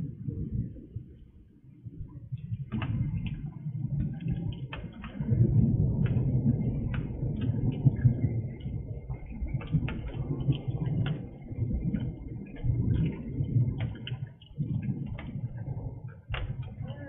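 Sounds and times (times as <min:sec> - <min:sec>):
rain low rumble: 0:00.0 - 0:17.0
raindrops ticking: 0:00.0 - 0:17.0.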